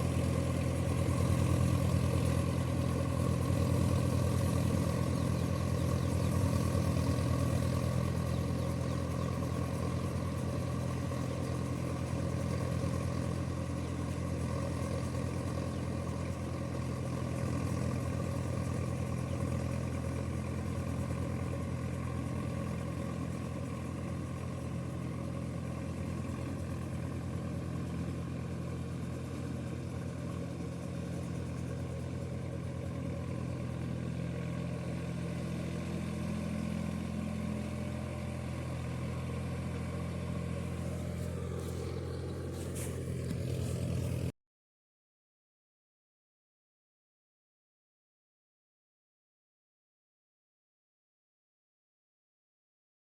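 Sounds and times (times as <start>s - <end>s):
tractor diesel engine running: 0.0s - 44.3s.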